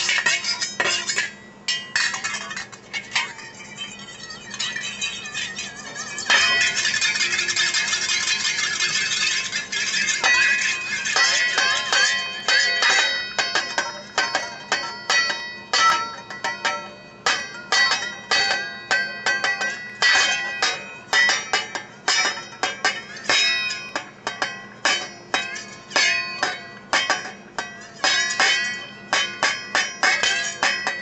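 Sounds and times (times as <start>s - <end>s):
pot lid ringing: 0.0s - 31.0s
whisk striking metal pot lid: 6.1s - 31.0s.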